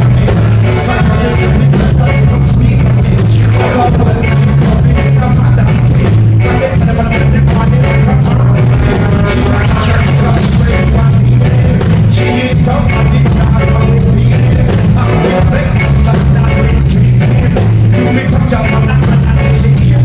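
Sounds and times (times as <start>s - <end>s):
live band playing ska rock: 0.0s - 20.0s.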